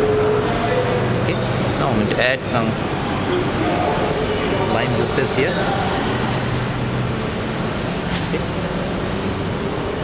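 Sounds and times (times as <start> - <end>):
kitchen ventilation hiss and hum: 0.0 - 10.0.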